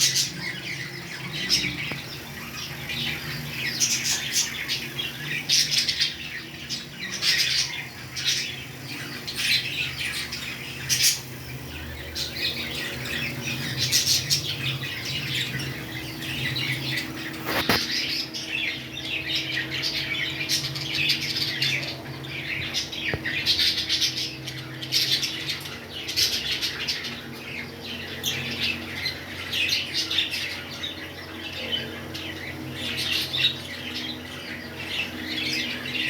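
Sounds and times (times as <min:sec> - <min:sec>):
parrots chirping and squawking: 0:00.0 - 0:36.0.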